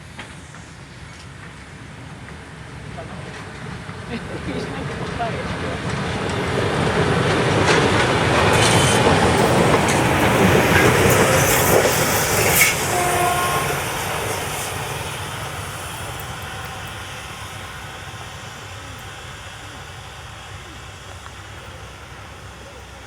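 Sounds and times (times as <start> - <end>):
locomotive running past: 0.0 - 23.0
rail clicks: 0.0 - 23.0.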